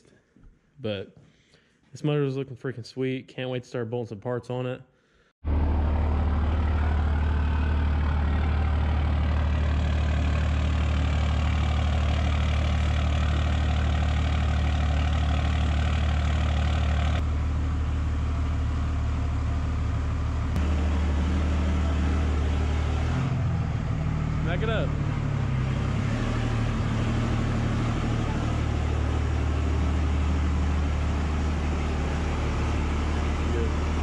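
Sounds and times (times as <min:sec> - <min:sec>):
diesel engine idling: 0:05.4 - 0:34.0.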